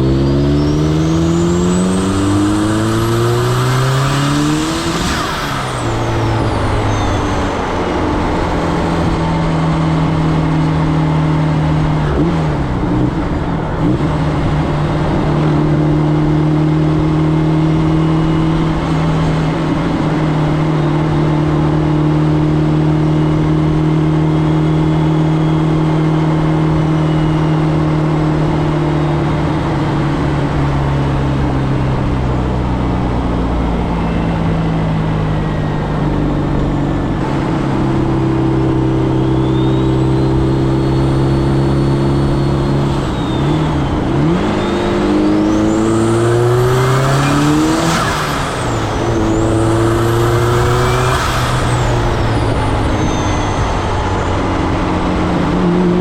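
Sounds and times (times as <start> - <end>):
car engine driving: 0.0 - 56.0.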